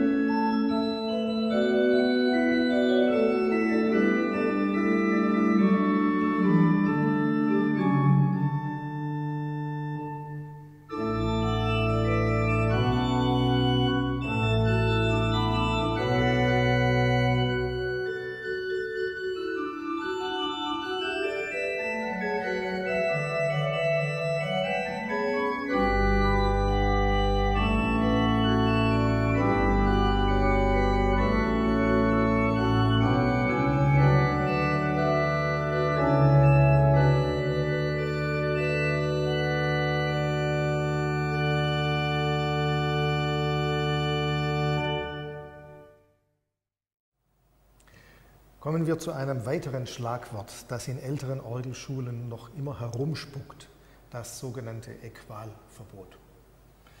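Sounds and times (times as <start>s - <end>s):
deep organ pedal bass: 0.0s - 45.8s
pipe organ playing: 0.0s - 46.1s.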